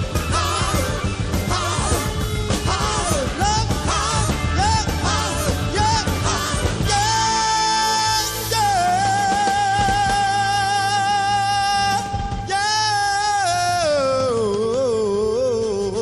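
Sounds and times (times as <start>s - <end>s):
rock band playing live: 0.0s - 15.9s.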